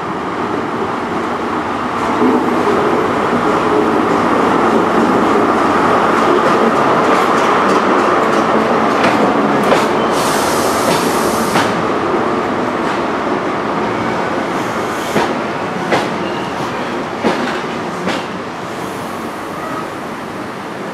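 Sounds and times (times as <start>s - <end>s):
train coaches rumbling: 0.0s - 20.9s.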